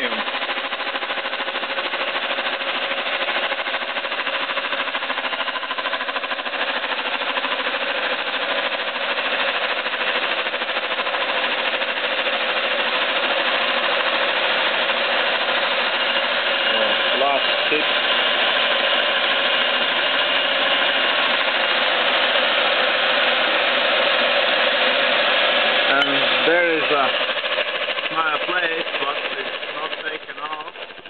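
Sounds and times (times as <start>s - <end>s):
milling cutter machining metal: 0.0s - 31.0s
motor and gearbox hum: 0.0s - 31.0s.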